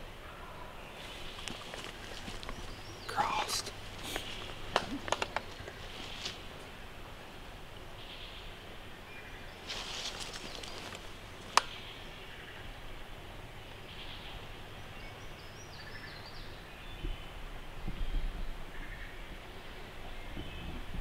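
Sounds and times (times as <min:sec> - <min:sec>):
faint songbirds calling: 0:00.0 - 0:21.0.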